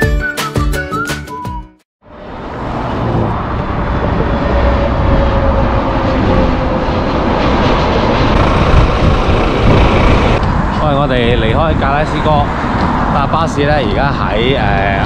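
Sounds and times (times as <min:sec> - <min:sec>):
bus engine rumble: 0:02.1 - 0:15.0.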